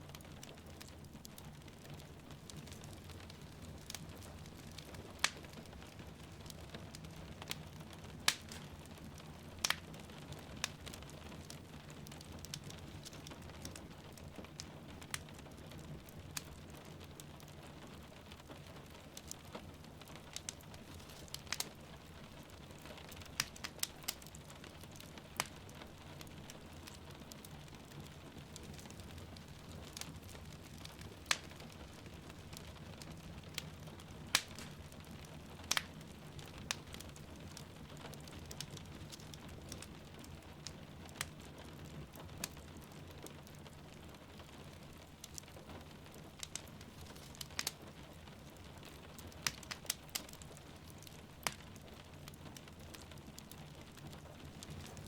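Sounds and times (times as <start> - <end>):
rain falling softly: 0.0 - 55.0
wood fire crackling and popping: 0.0 - 55.0.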